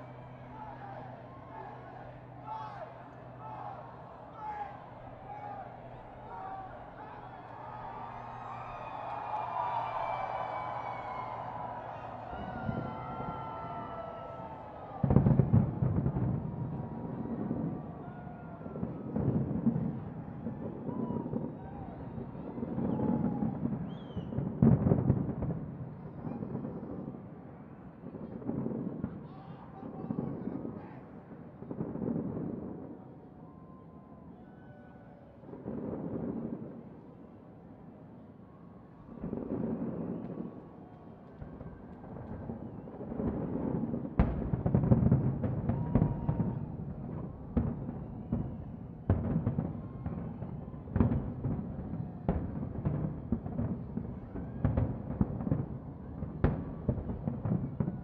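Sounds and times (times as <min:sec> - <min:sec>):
distant fireworks booming: 0:00.0 - 0:21.9, 0:22.5 - 0:27.4, 0:35.4 - 0:37.1, 0:39.0 - 0:58.0.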